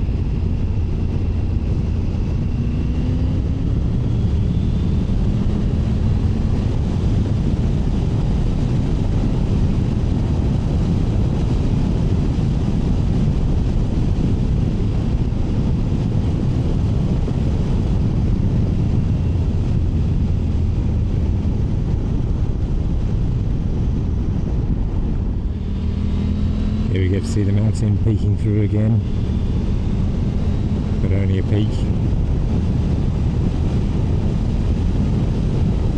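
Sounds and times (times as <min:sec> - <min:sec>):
motorcycle engine cruising: 0:00.0 - 0:35.9
wind rush on microphone: 0:00.0 - 0:35.9.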